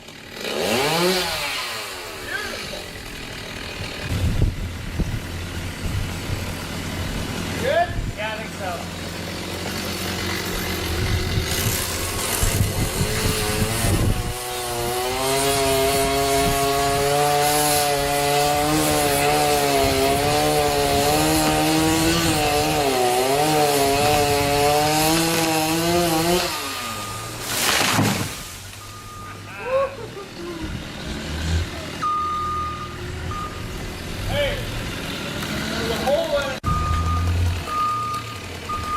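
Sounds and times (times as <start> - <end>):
chainsaw cutting branch: 0.0 - 29.0, 34.1 - 36.6.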